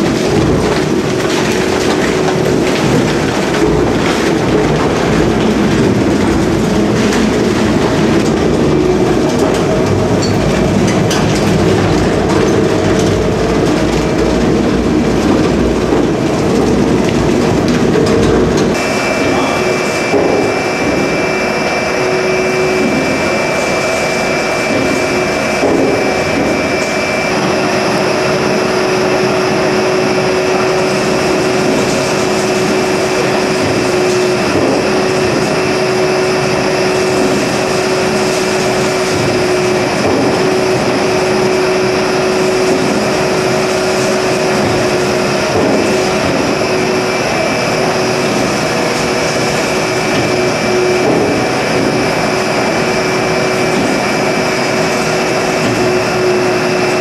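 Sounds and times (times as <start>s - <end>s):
machine deep rumble: 0.0s - 57.0s
machine steady whine: 0.0s - 57.0s.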